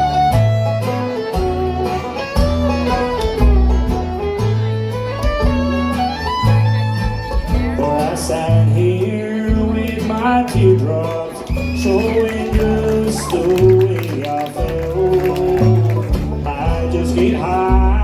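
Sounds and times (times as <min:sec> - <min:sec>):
bass stepping between notes: 0:00.0 - 0:18.0
fiddle sliding melody: 0:00.0 - 0:18.0
strummed guitar: 0:00.0 - 0:18.0.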